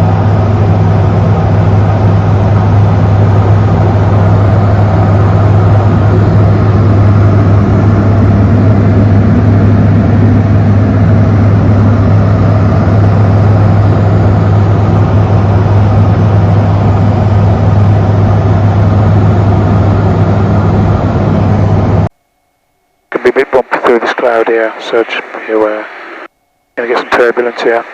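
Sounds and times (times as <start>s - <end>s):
aircraft engine drone: 0.0s - 27.9s.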